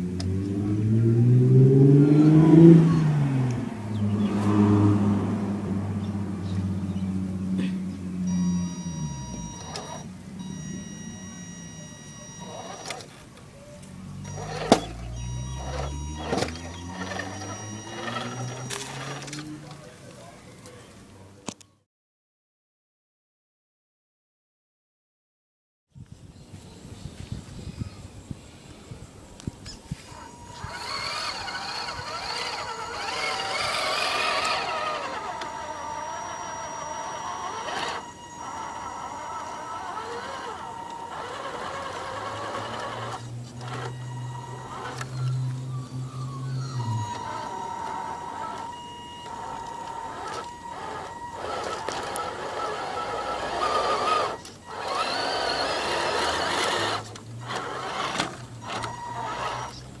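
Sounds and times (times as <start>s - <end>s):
electric motor whining: 0.1s - 19.9s, 29.4s - 60.0s.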